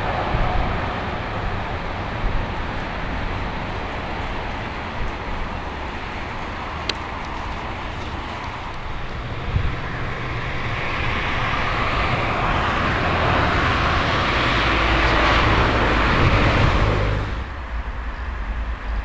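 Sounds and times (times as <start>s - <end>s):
vehicle passing close by: 0.0s - 19.0s.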